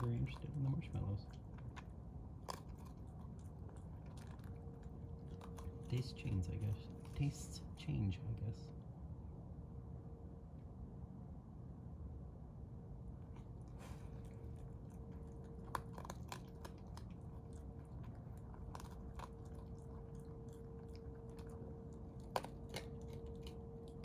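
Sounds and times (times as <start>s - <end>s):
raccoon chewing and crunching food: 0.0s - 9.0s, 13.0s - 24.0s.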